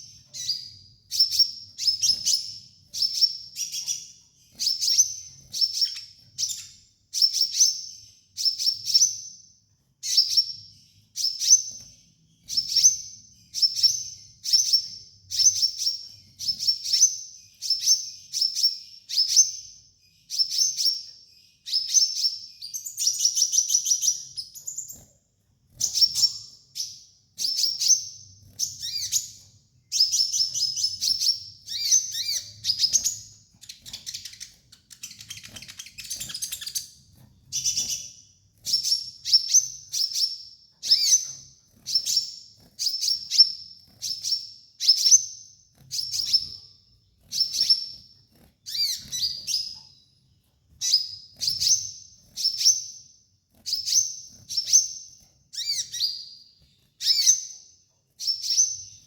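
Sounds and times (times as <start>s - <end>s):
sunbird chirping: 0.0s - 53.1s.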